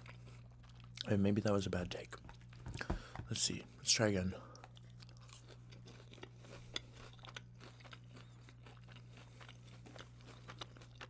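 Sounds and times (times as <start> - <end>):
chewing fried chicken crunching: 0.0 - 3.3, 4.4 - 11.0
low electrical hum: 0.0 - 11.0.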